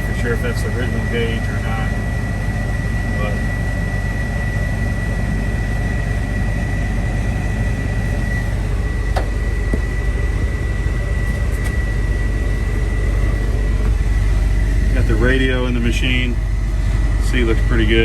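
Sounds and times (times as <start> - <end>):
diesel engine idling: 0.0 - 18.0
thin high whine: 0.0 - 18.0.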